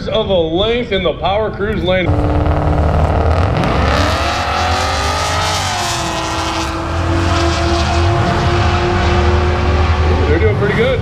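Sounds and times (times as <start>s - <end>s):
drag racing cars accelerating: 2.1s - 11.0s.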